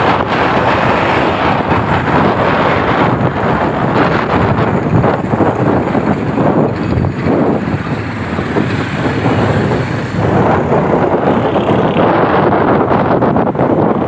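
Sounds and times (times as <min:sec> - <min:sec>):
road and engine noise: 0:00.0 - 0:14.0
wind buffeting microphone: 0:00.0 - 0:14.0.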